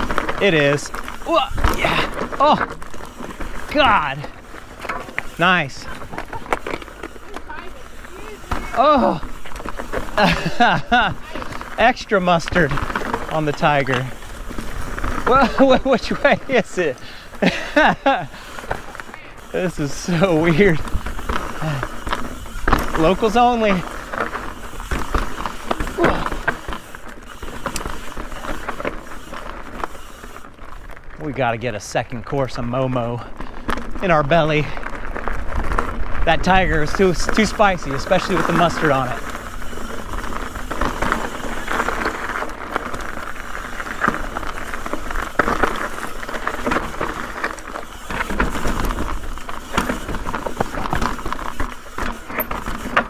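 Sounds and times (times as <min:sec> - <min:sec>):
bike knocking and rattling on rocks: 0:00.0 - 0:31.6, 0:32.5 - 0:53.0
bike tyres rolling over dirt: 0:00.0 - 0:53.0.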